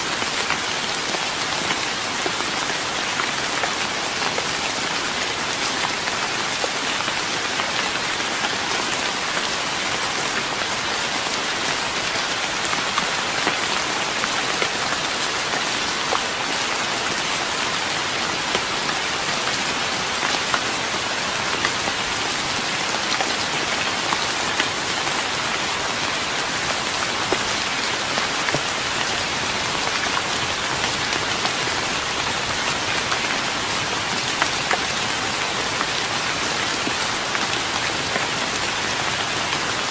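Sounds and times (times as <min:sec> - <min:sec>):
rain on a wooden deck: 0:00.0 - 0:39.9.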